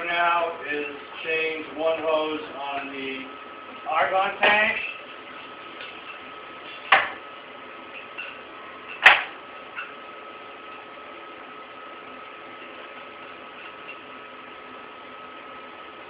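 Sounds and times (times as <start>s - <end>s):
steady hum with high tone: 0.0s - 16.0s.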